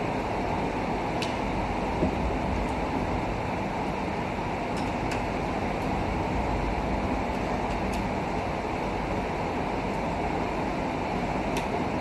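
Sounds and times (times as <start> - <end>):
rushing mechanical noise: 0.0 - 12.0.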